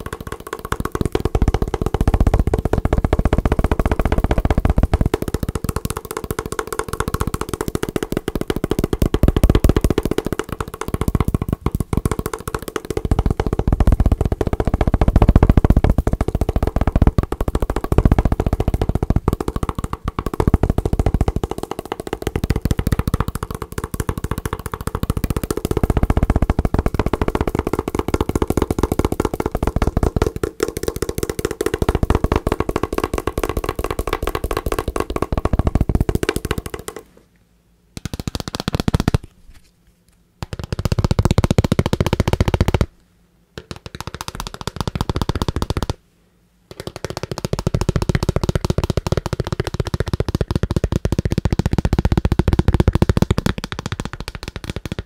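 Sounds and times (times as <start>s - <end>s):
fingertips tapping hard case: 0.0s - 37.1s, 40.4s - 42.9s, 43.6s - 46.0s, 46.7s - 55.0s.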